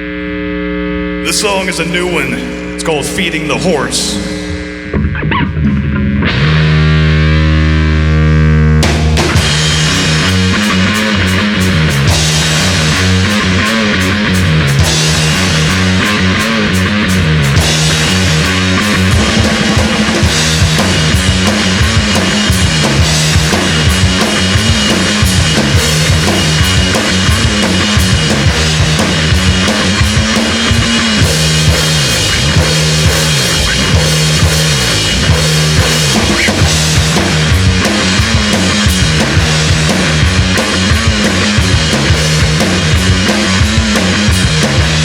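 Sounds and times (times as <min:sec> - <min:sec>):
distorted electric guitar: 0:00.0 - 0:45.0
rock band playing: 0:01.2 - 0:45.0
bass drum and snare: 0:08.8 - 0:45.0.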